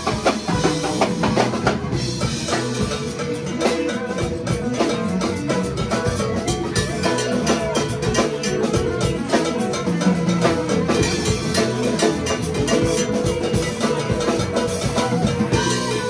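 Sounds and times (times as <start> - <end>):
live band instrumental groove: 0.0 - 16.0.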